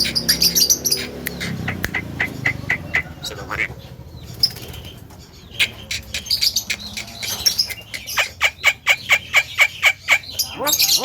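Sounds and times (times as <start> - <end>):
bird chirps and clicks: 0.0 - 3.4, 4.2 - 10.5.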